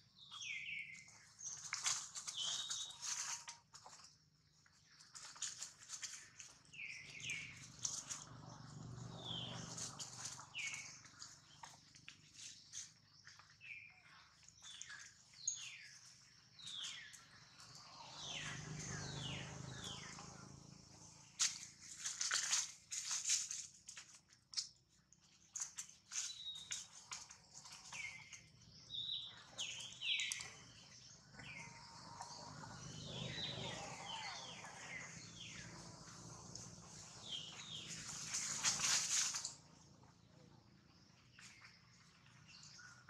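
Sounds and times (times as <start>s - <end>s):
dry leaves crackling: 1.2s - 4.1s, 4.8s - 13.0s, 14.5s - 24.6s, 25.3s - 39.8s.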